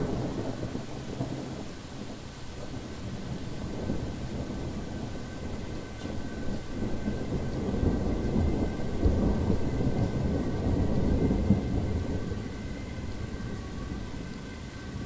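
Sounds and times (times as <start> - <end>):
rolling thunder: 0.0 - 15.0
steady rain: 0.0 - 15.0.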